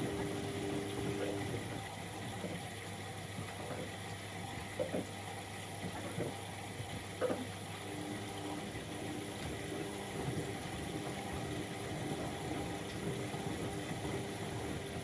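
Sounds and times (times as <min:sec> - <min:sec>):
washing machine hum: 0:00.0 - 0:15.0
water sloshing in drum: 0:00.0 - 0:15.0.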